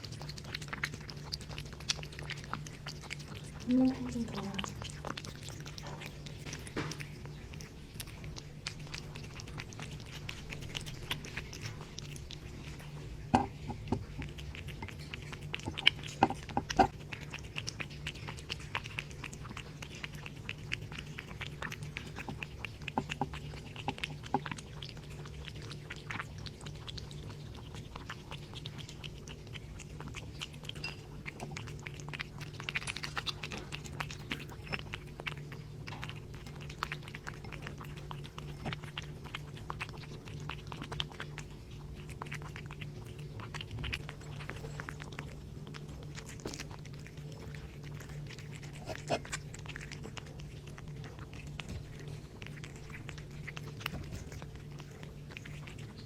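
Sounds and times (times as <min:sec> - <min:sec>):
cat lapping and chewing wet food: 0:00.0 - 0:56.0.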